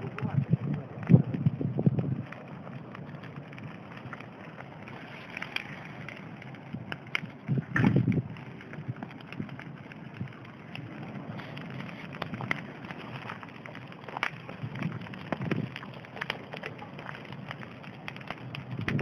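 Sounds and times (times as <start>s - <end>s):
bonfire crackling and popping: 0.0s - 19.0s
fire hissing: 0.0s - 19.0s.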